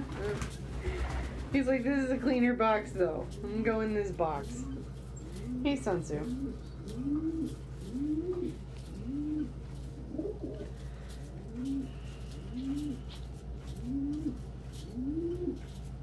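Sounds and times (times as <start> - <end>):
pigeons cooing: 0.0 - 16.0
steady low hum: 0.0 - 16.0.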